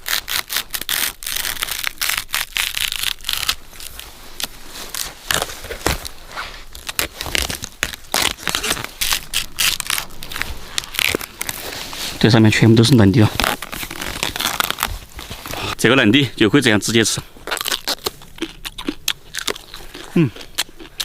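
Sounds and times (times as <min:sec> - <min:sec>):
palm sheaths tearing: 0:00.0 - 0:15.8, 0:17.4 - 0:21.0.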